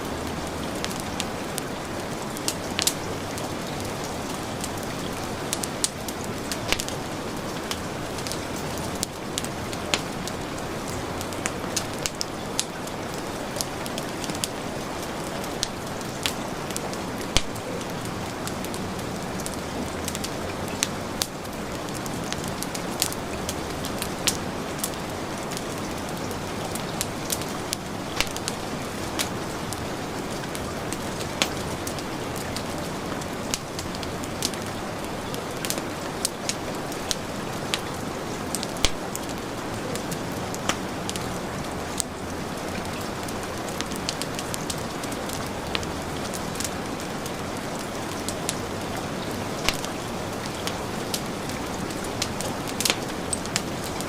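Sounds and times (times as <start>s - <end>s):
heavy rain: 0.0s - 54.0s
wood fire crackling: 0.0s - 54.0s.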